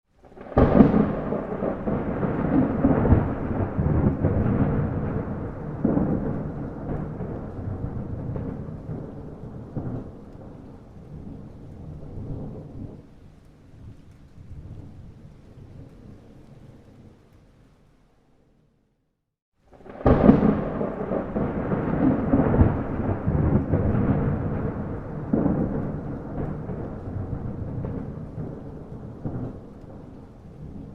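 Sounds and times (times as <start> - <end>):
heavy rain: 0.1 - 17.9, 19.6 - 30.9
thunder rumbling: 0.2 - 17.3, 19.7 - 30.9.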